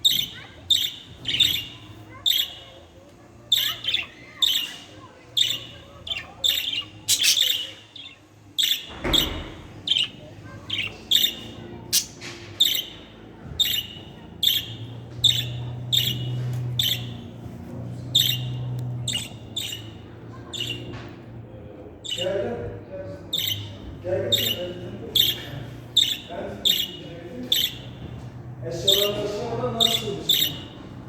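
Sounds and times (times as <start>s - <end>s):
budgerigar chirping: 0.0s - 2.9s, 3.5s - 17.4s, 18.1s - 20.9s, 22.0s - 22.4s, 23.3s - 28.1s, 28.7s - 30.9s.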